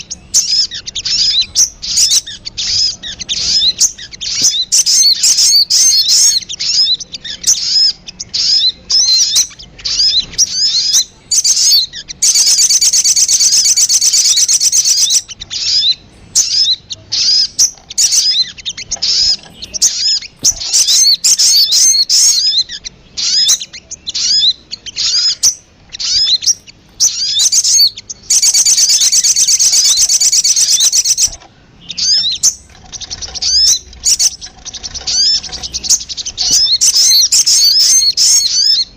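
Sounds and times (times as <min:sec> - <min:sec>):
bird fast trill: 0:00.0 - 0:38.9
sunbird high chirps: 0:00.0 - 0:38.9.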